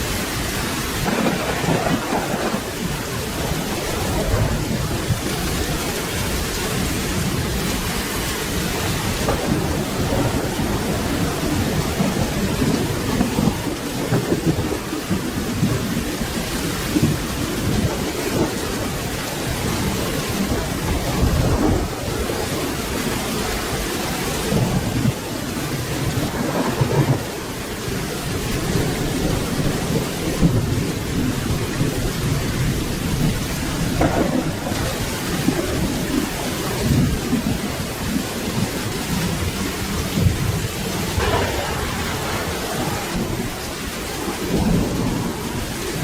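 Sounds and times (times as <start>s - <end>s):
steady rain: 0.0s - 46.0s
distant thunder rumbling: 0.7s - 22.9s, 24.5s - 38.2s, 39.4s - 46.0s.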